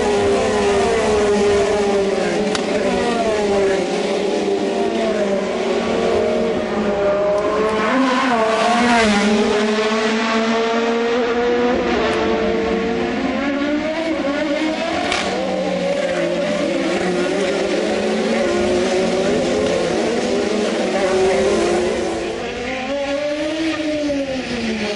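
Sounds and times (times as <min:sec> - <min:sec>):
race car engines: 0:00.0 - 0:24.9.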